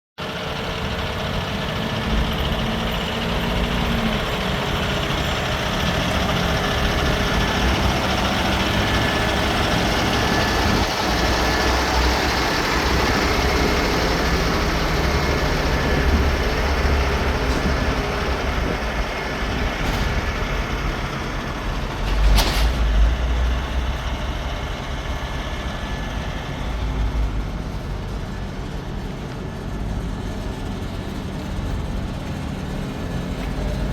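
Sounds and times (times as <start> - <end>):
truck diesel engine rumbling: 0.2 - 33.9.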